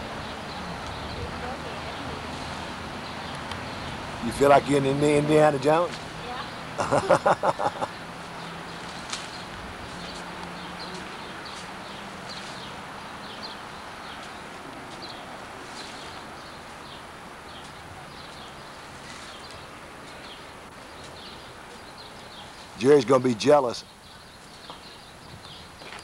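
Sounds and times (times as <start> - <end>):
outdoor background hiss: 0.0 - 26.0
small birds chirping: 0.0 - 26.0.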